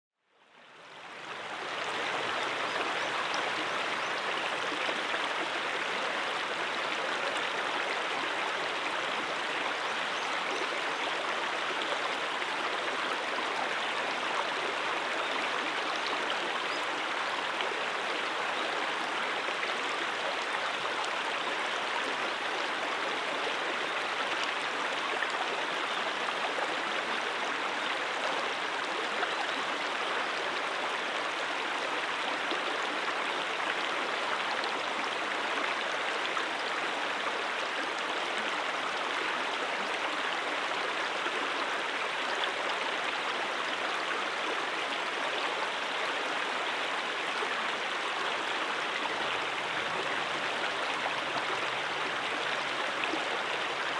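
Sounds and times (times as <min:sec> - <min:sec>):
brook water rushing over rocks: 0:01.0 - 0:53.9.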